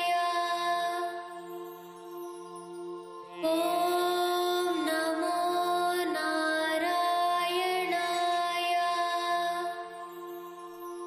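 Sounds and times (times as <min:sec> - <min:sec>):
droning background music: 0:00.0 - 0:11.0.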